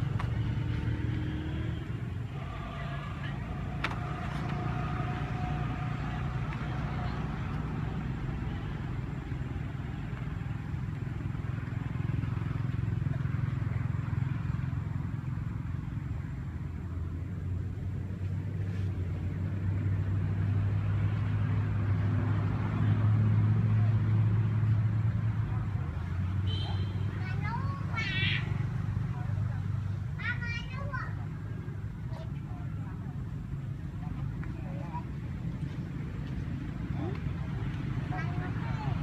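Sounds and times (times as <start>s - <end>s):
low engine rumble: 0.0s - 39.0s.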